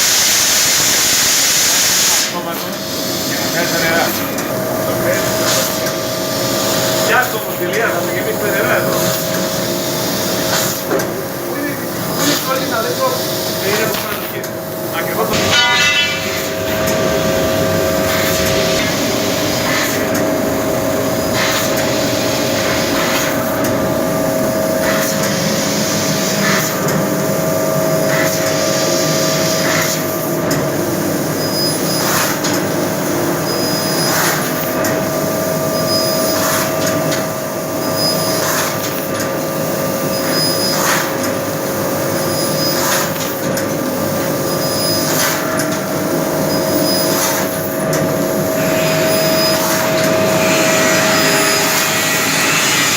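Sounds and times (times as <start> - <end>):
laser cutting hiss: 0.0 - 27.2, 30.8 - 52.9
machine humming: 2.4 - 38.4, 43.7 - 52.9.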